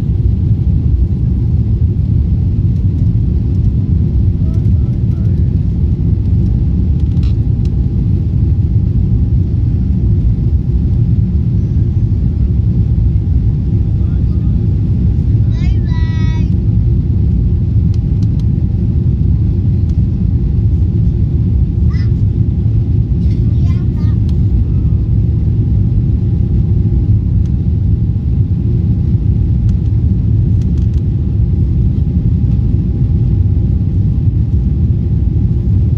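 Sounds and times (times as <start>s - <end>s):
jet engine rumble: 0.0s - 35.9s.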